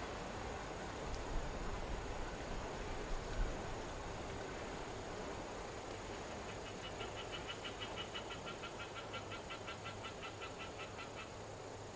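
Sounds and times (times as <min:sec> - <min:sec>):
background hiss: 0:00.0 - 0:11.9.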